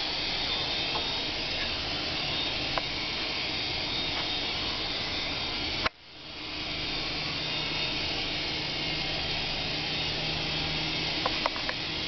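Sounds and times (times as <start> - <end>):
toy helicopter rotors whirring: 0.0 - 12.0.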